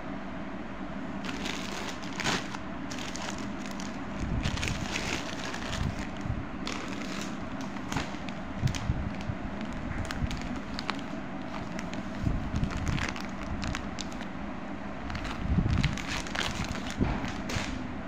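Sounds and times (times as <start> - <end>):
low steady rumble: 0.0 - 18.0
plastic packaging crackling: 1.2 - 14.3, 15.1 - 17.8.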